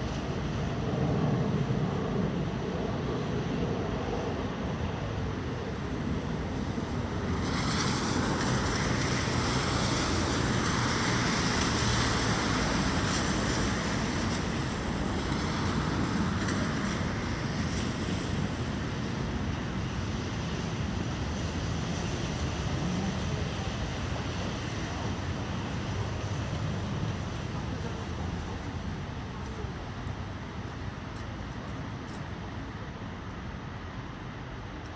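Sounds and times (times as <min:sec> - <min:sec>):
blizzard wind rushing: 0:00.0 - 0:29.3
road traffic: 0:05.8 - 0:34.9.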